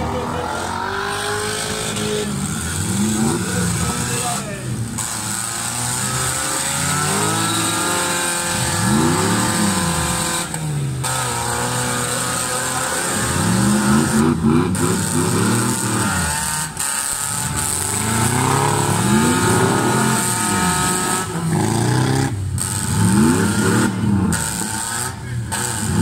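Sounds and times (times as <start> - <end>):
old car engines revving: 0.0 - 26.0.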